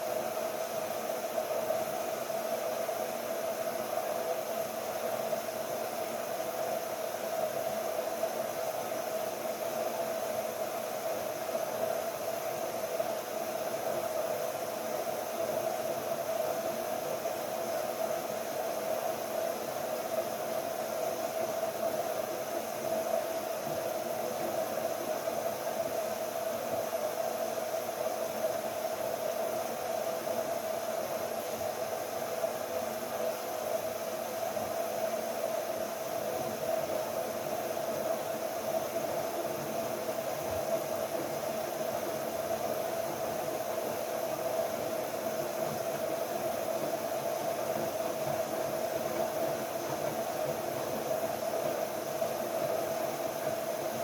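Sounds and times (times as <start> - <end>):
washing machine whirring: 0.0 - 54.0.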